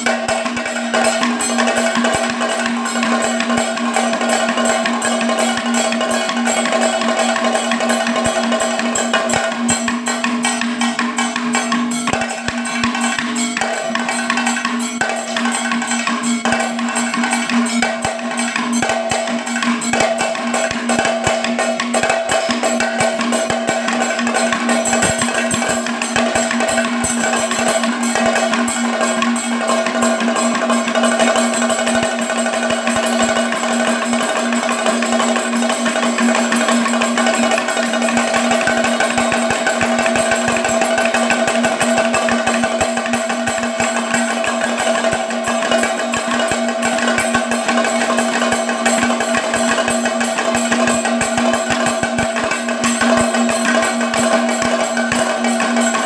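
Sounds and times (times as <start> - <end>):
fast drumming with sticks and hands: 0.0 - 56.0
steady ringing tone: 0.0 - 56.0.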